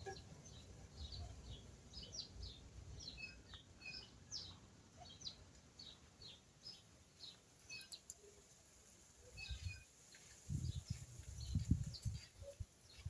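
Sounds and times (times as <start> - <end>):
faint small bird chirping: 0.0 - 8.6, 9.2 - 13.0.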